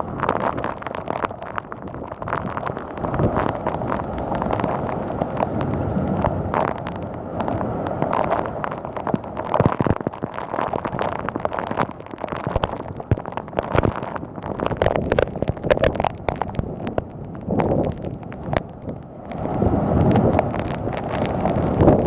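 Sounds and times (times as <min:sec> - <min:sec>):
heavy rain: 0:00.0 - 0:22.0
wind buffeting microphone: 0:00.0 - 0:22.0
sharp pops: 0:00.2 - 0:19.4.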